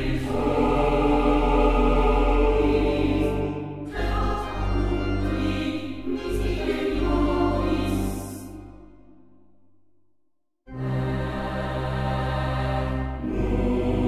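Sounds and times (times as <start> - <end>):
choir singing held chords: 0.0 - 9.2, 10.7 - 14.0.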